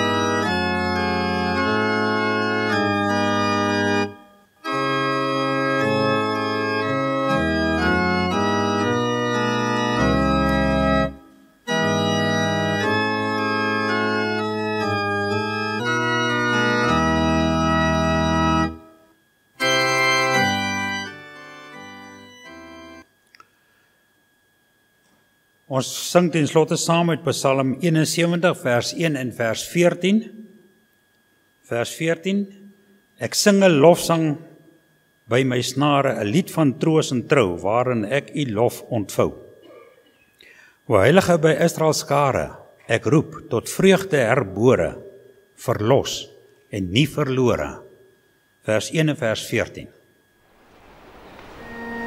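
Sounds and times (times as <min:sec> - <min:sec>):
organ playing sustained chords: 0:00.0 - 0:52.0.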